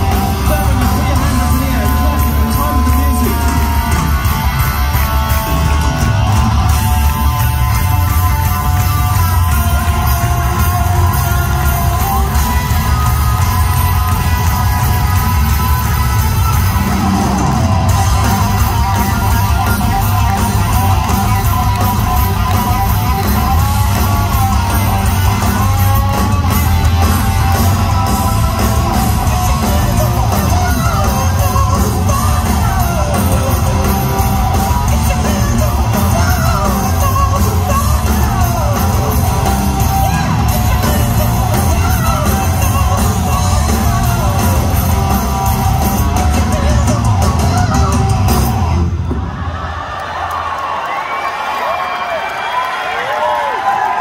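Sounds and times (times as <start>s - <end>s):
live hard rock band: 0.0s - 50.0s.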